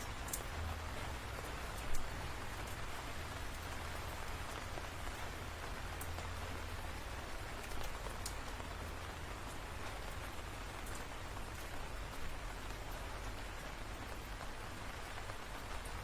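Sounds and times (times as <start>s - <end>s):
raindrop ticks: 0.0s - 16.0s.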